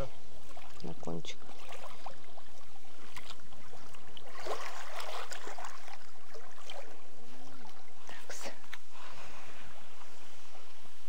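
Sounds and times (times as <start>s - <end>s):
water sloshing and trickling: 0.0s - 10.8s.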